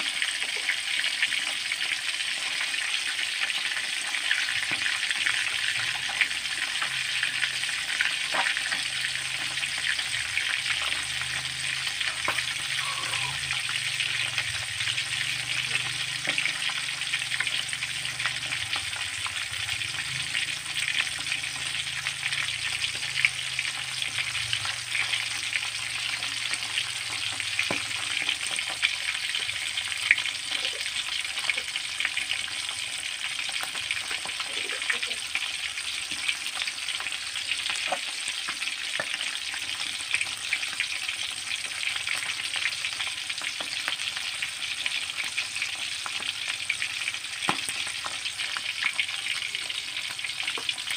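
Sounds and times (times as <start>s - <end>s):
fish sizzling in oil: 0.0s - 50.9s.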